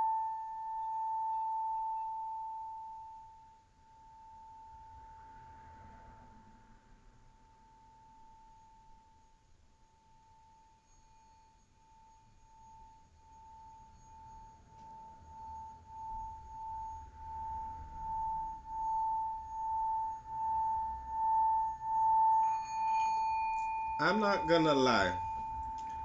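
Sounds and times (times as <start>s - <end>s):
singing bowl ringing: 0.0s - 6.6s, 7.3s - 26.0s.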